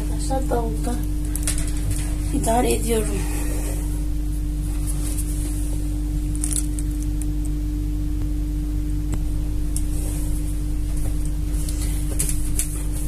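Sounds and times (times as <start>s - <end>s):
appliance hum: 0.0s - 13.0s.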